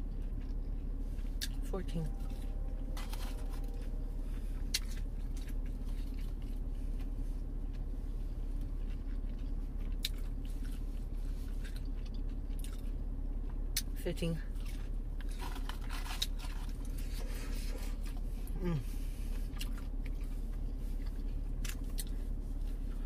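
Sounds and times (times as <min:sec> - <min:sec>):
person chewing crunchy food: 0:00.0 - 0:23.0
steady low hum: 0:00.0 - 0:23.0.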